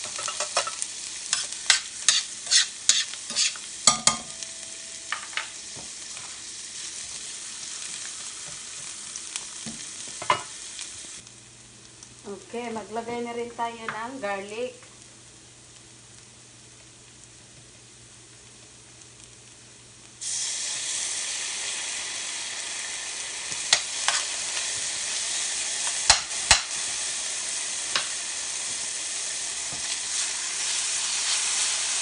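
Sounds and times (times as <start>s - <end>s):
onion sizzling in oil: 0.0s - 32.0s.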